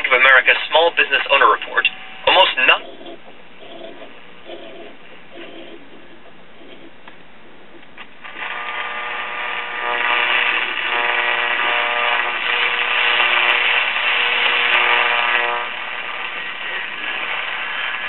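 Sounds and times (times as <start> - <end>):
radio static hiss: 0.0 - 18.0
steady radio tones: 0.0 - 18.0.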